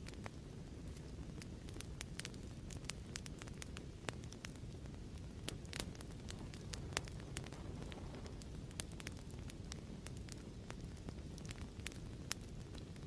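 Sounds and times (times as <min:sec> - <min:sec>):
fire crackling and popping: 0:00.0 - 0:13.0
wood fire low rumble: 0:00.0 - 0:13.0.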